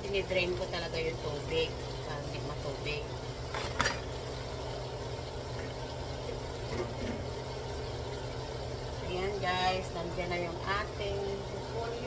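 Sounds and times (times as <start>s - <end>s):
cabbage sizzling in hot oil: 0.0s - 12.0s.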